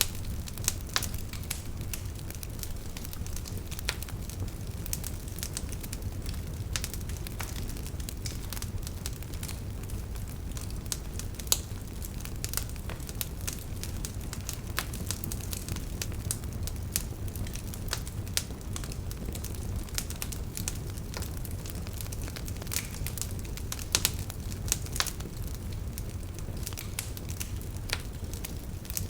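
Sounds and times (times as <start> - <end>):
low rumble of flames: 0.0 - 29.0
wood fire crackles and pops: 0.0 - 29.0.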